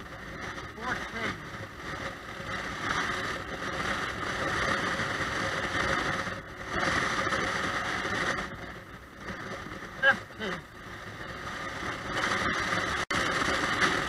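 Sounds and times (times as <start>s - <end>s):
motorcycle engine running: 0.0s - 14.0s
wind rush: 0.0s - 14.0s.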